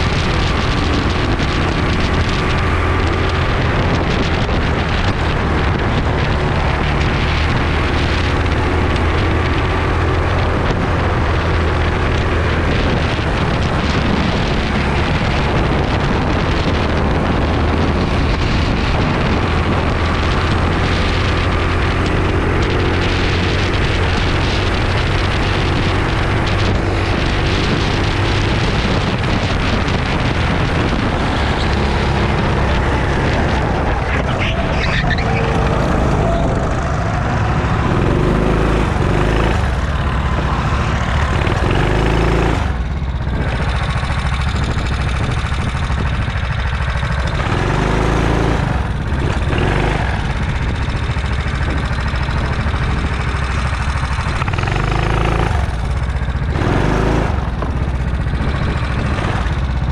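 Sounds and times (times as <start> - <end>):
kart engine racing: 0.0 - 59.9
wind noise on microphone: 0.0 - 59.9.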